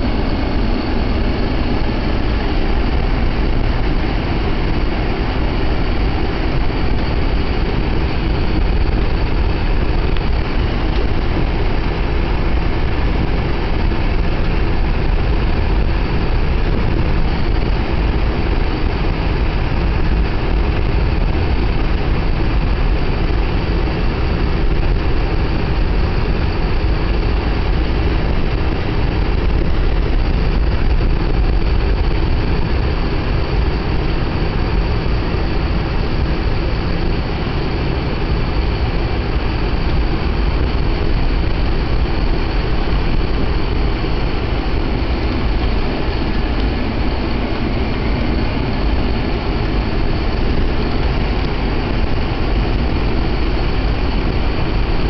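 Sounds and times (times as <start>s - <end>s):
car engine rumble: 0.0s - 55.0s
tyres on snow-packed street: 0.0s - 55.0s.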